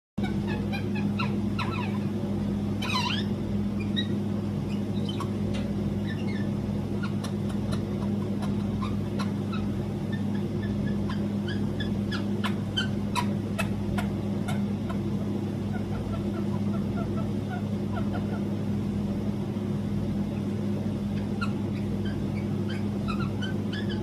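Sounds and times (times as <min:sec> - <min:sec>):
parakeet warbling call: 0:00.2 - 0:18.6, 0:21.0 - 0:24.0
parakeet chirping and muttering: 0:00.2 - 0:18.7, 0:20.2 - 0:24.0
steady low hum: 0:00.2 - 0:24.0.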